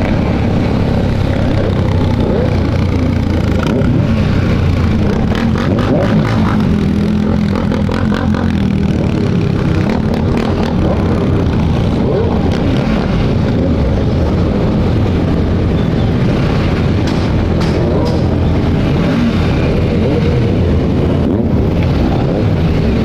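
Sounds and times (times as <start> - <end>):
group of motorcycle engines: 0.0 - 23.0.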